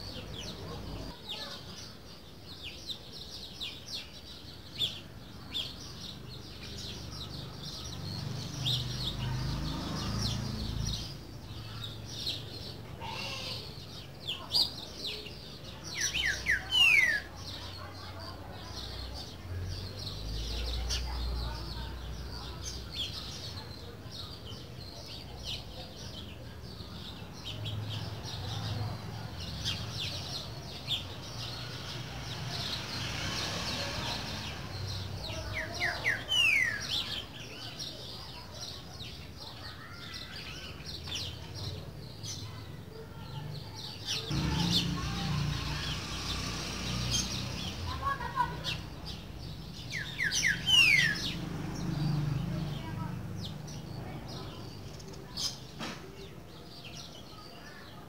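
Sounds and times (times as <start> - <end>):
other birds chirping: 0.0 - 58.0.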